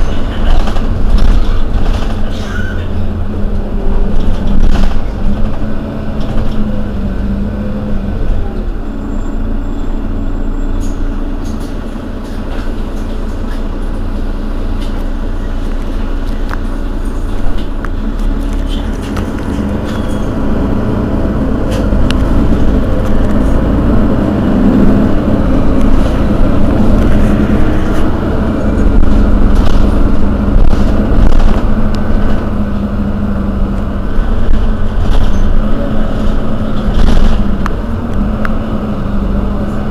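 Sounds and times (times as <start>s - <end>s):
bus diesel engine hum: 0.0s - 39.9s.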